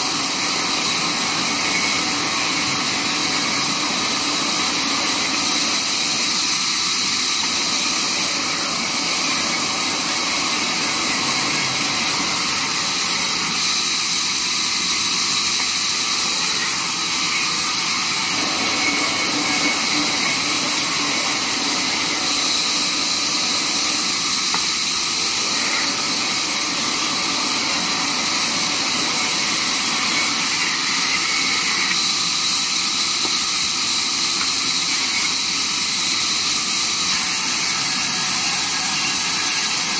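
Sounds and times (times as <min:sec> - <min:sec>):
band saw cutting wood hiss: 0:00.0 - 0:39.9.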